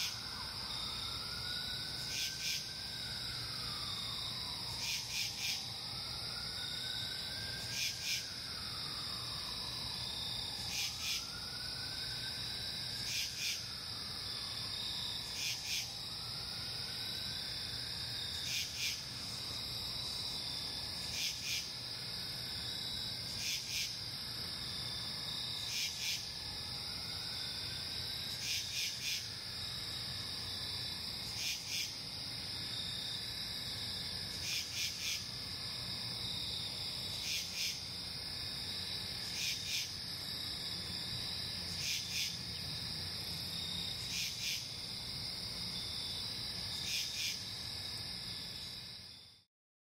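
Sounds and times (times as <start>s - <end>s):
insect trill: 0.0s - 49.5s.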